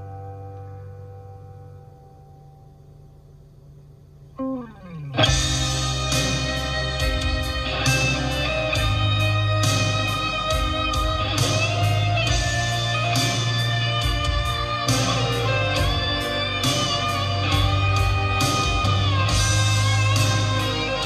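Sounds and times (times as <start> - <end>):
bass notes: 0.0 - 21.0
electric guitar melody: 0.0 - 21.0.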